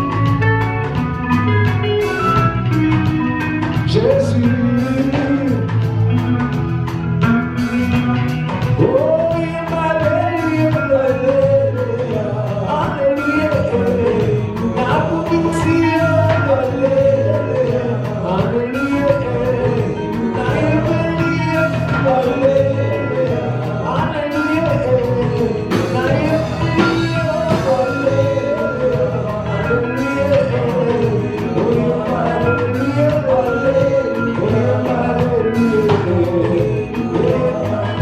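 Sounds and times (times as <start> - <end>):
band playing with drums and bass: 0.0 - 38.0
voices singing: 0.0 - 38.0.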